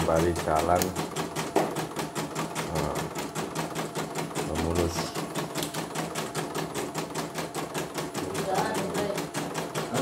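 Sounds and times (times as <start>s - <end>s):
embroidery machine stitching: 0.0s - 10.0s.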